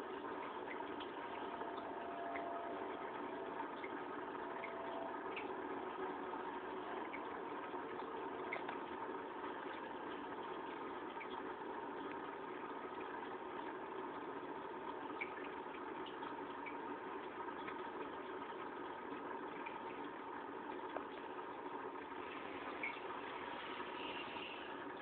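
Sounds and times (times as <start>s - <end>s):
aquarium pump humming: 0.0s - 25.0s.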